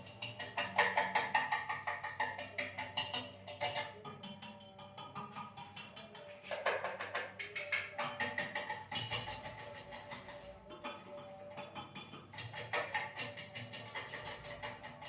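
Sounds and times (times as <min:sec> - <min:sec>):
background music with wood-block clicks: 0:00.0 - 0:15.0.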